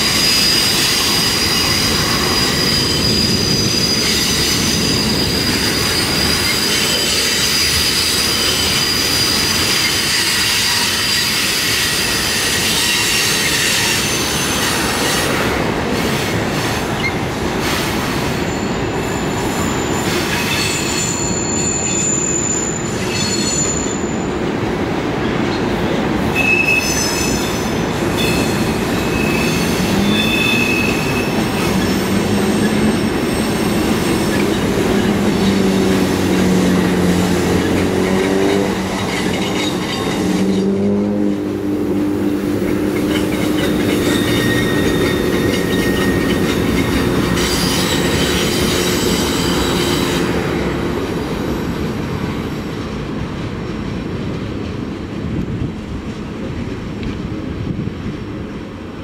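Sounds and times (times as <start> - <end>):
wheels squealing: 0.0 - 24.3, 26.3 - 52.7
freight cars rumbling on rails: 0.0 - 59.0.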